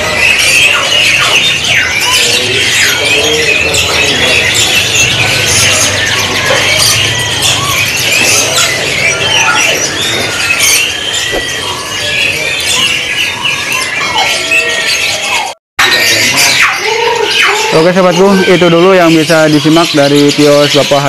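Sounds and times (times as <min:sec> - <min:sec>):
canaries singing: 0:00.0 - 0:21.0.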